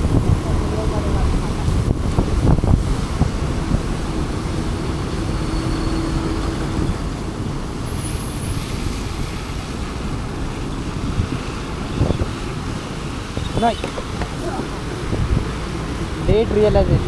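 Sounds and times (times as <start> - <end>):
engine and tyre noise: 0.0 - 17.0.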